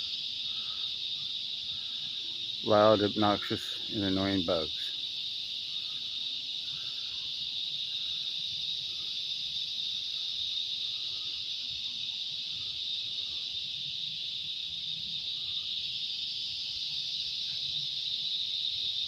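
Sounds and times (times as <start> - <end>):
cicadas buzzing: 0.0 - 19.0.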